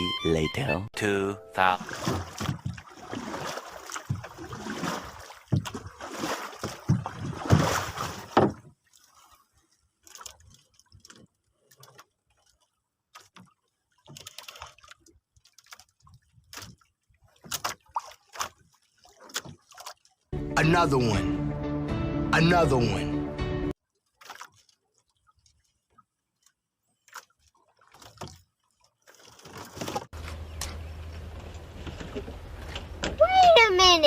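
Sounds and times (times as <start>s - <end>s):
water sloshing and splashing: 1.6s - 20.4s, 23.7s - 34.0s.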